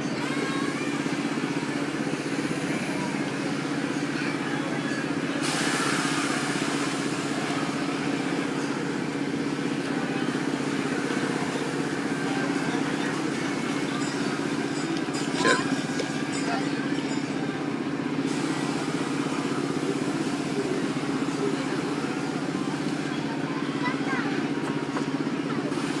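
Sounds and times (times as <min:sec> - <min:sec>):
ride motor hum: 0:00.0 - 0:26.0.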